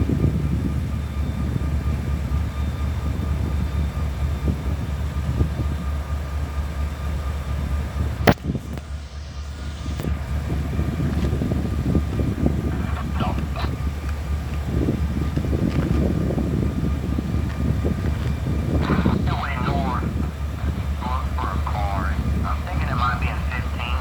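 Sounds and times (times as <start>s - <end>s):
diesel locomotive idling: 0.0s - 24.0s.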